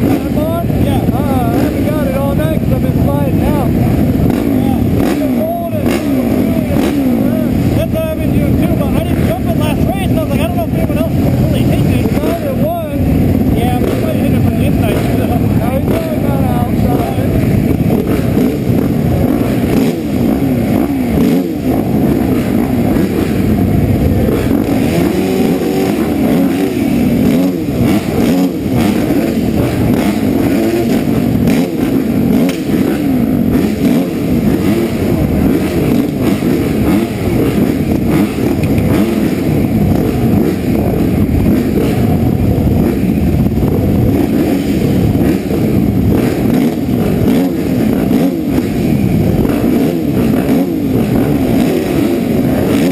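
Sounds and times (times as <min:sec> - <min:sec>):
motocross bikes idling and revving: 0:00.0 - 0:52.9.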